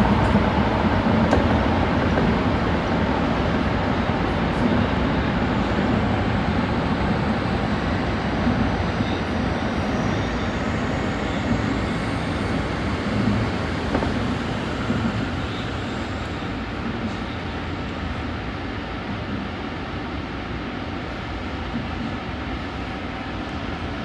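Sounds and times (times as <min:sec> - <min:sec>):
train wheels rumbling in tunnel: 0:00.0 - 0:24.0.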